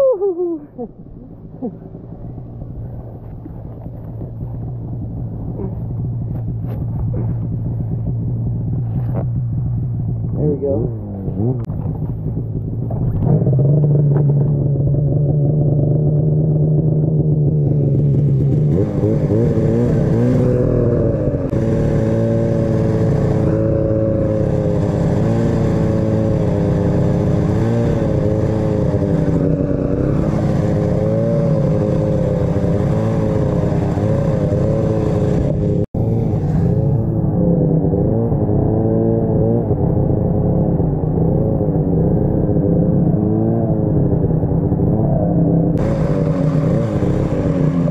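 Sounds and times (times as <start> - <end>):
snowmobile engine: 0.0 - 47.9.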